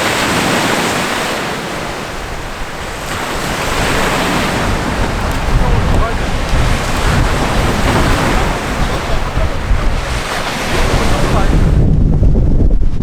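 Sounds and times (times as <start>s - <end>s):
waves breaking on shore: 0.0s - 12.0s
strong wind buffeting microphone: 0.0s - 13.0s.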